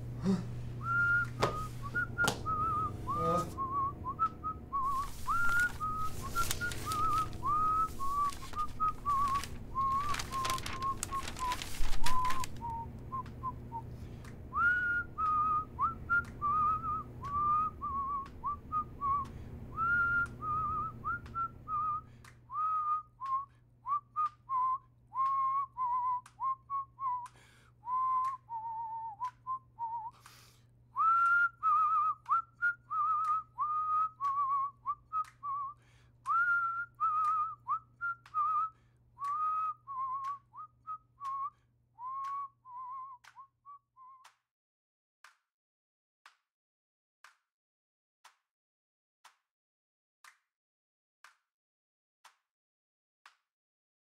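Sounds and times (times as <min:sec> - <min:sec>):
man whistling a tune: 0:00.2 - 0:13.9, 0:14.5 - 0:44.4.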